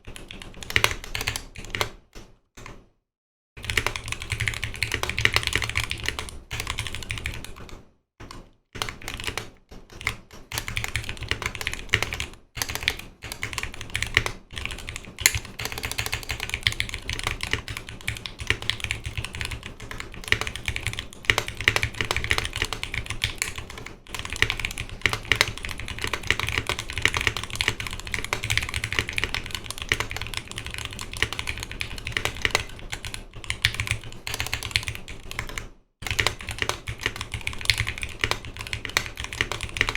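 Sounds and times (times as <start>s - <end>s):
fast mechanical keyboard typing: 0.0s - 2.8s, 3.6s - 39.9s.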